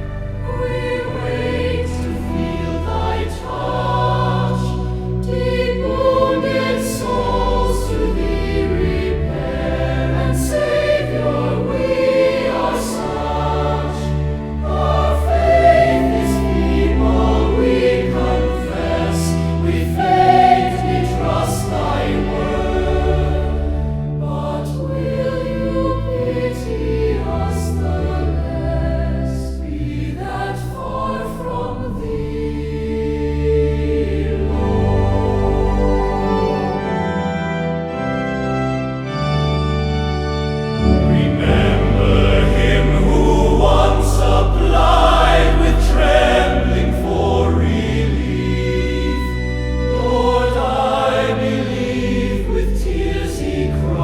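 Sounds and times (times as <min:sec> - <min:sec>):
choir singing a hymn: 0:00.0 - 0:54.0
sustained low accompaniment: 0:00.0 - 0:54.0.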